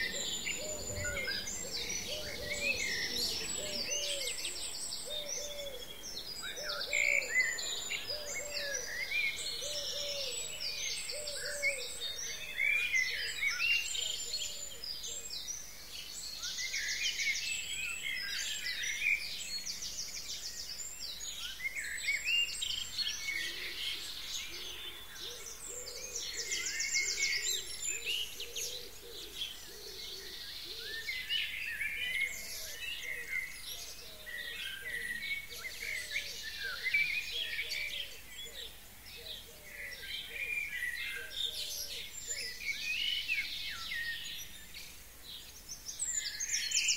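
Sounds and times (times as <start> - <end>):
songbirds chirping and trilling: 0.0 - 46.9.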